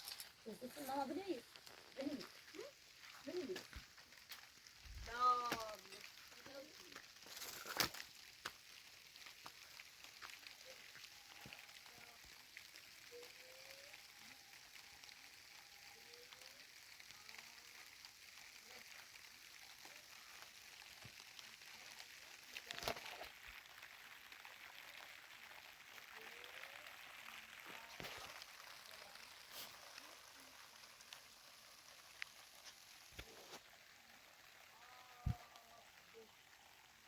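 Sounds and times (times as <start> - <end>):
rain hissing: 0.0 - 37.0.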